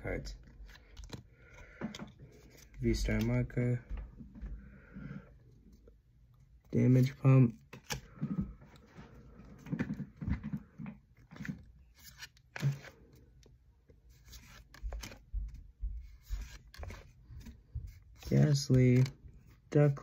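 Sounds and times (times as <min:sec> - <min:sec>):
trading cards rustling and sliding: 0:00.3 - 0:03.6, 0:06.7 - 0:20.0.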